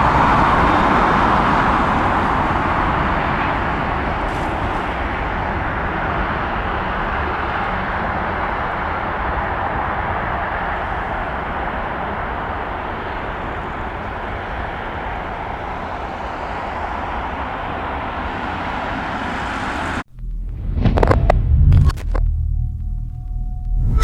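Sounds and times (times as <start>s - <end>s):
jet engines rushing: 0.0s - 22.8s.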